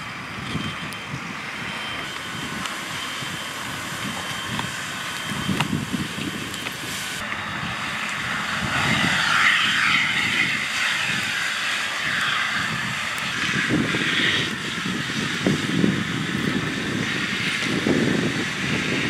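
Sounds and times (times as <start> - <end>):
fire engine pump rumbling: 0.0 - 19.0
water spray hissing into steam: 1.4 - 19.0.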